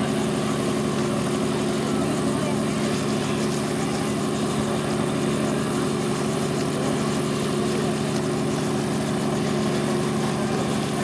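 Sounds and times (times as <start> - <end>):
helicopter engine hum: 0.0 - 11.0
rotor pulsing: 0.0 - 11.0.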